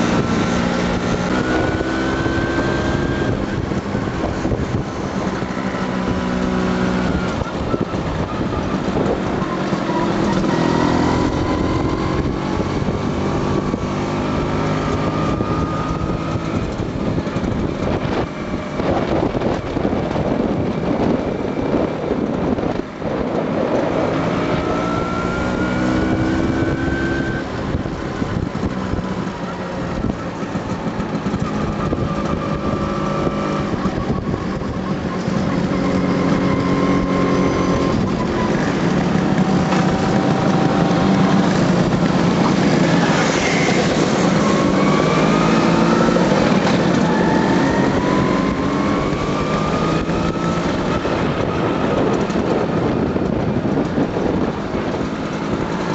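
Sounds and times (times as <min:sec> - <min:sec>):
scooter engines revving: 0:00.0 - 0:55.9
wind noise: 0:00.0 - 0:55.9.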